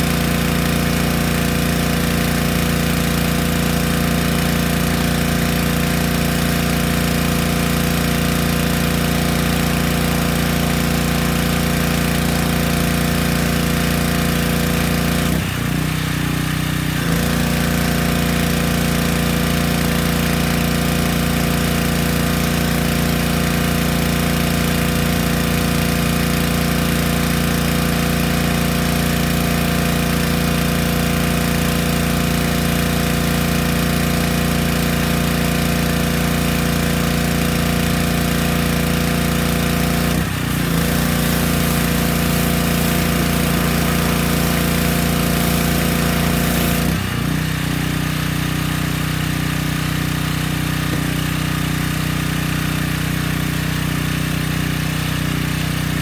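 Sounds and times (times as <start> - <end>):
hiss of water spray: 0.0 - 47.8
pressure washer engine running: 0.0 - 56.0.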